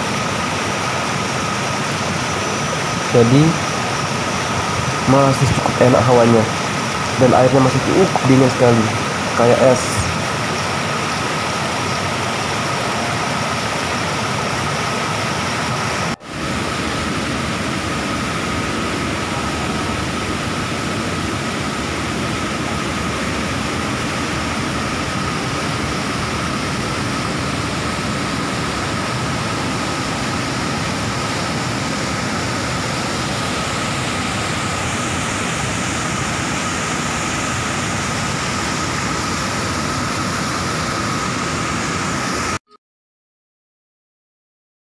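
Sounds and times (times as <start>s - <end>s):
waterfall rushing over rocks: 0.0s - 42.6s.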